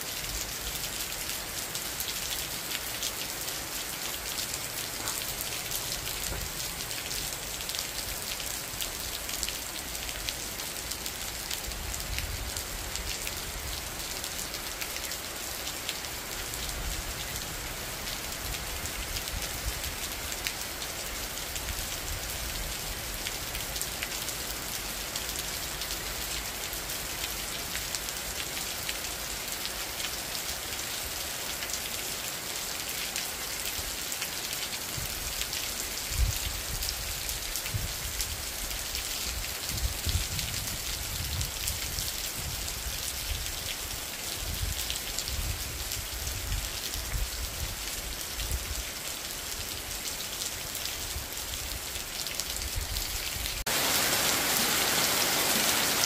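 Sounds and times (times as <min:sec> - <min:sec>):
steady rain in forest: 0:00.0 - 0:56.0.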